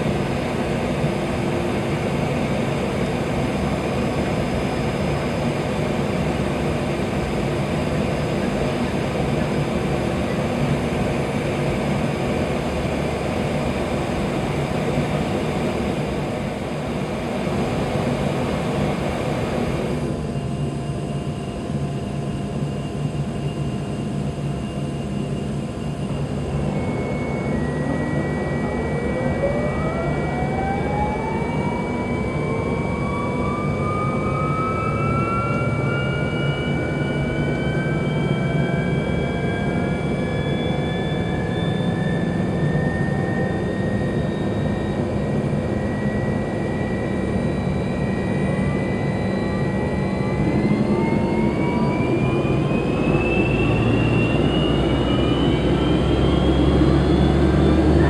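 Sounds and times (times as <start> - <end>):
jet engine whine spooling up: 0.0 - 58.0.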